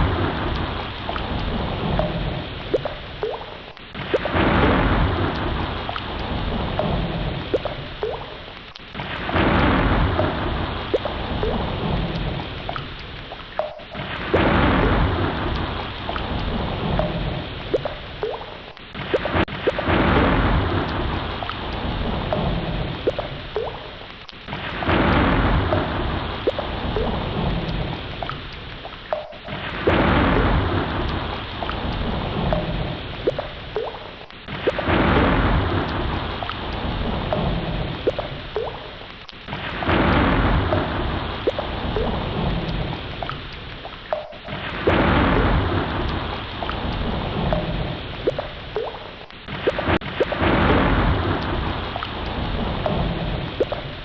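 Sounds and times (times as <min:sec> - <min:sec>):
ocean waves surging: 0:03.9 - 0:08.0, 0:08.9 - 0:12.6, 0:13.6 - 0:18.2, 0:18.9 - 0:23.1, 0:24.5 - 0:28.2, 0:29.1 - 0:33.2, 0:34.4 - 0:48.8, 0:49.4 - 0:54.0.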